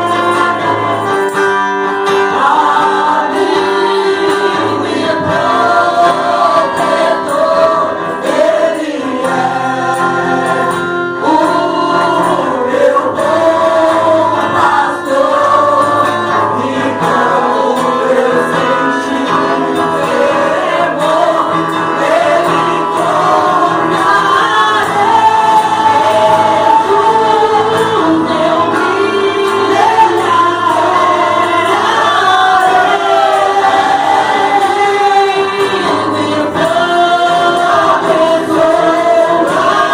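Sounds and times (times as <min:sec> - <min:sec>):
group singing worship song: 0:00.0 - 0:39.9.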